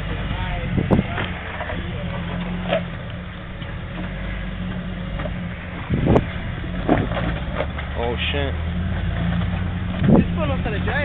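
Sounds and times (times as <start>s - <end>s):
car engine running slowly: 0.0s - 11.0s.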